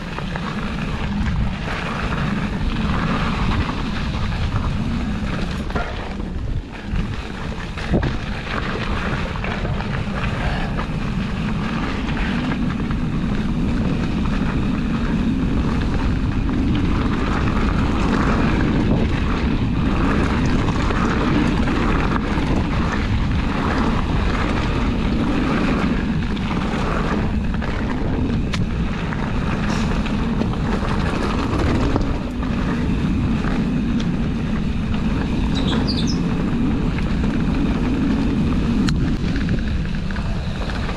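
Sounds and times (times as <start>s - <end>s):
trail rumble: 0.0s - 40.9s.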